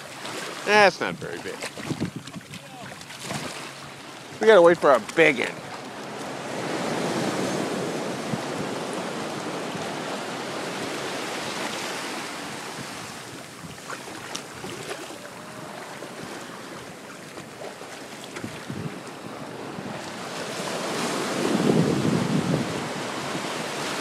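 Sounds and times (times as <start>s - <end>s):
ocean surf washing in: 0.0s - 1.6s, 4.3s - 24.0s.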